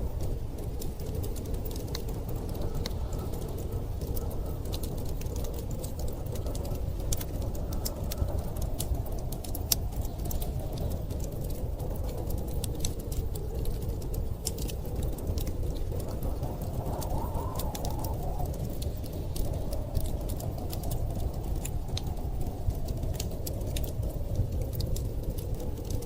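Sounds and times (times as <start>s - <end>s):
storm wind rumble: 0.0s - 26.0s
wood fire crackling: 0.0s - 26.0s.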